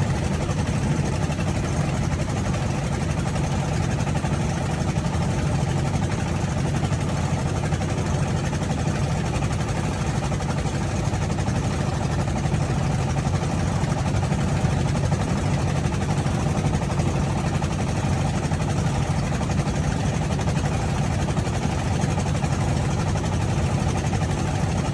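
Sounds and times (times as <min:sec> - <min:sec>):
boat engine droning: 0:00.0 - 0:24.9.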